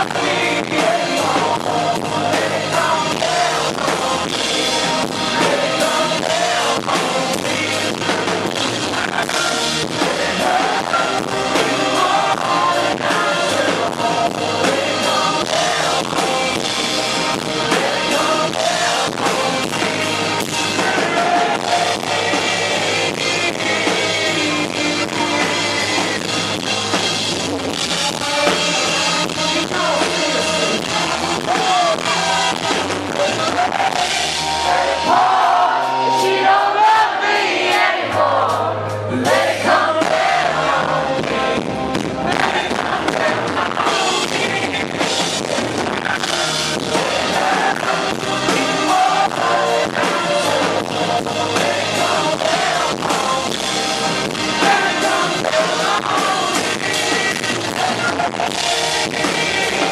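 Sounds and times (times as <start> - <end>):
person singing: 0.0 - 26.9, 27.8 - 59.9
drum kit beat: 0.0 - 59.9
live country-rock band: 0.0 - 59.9.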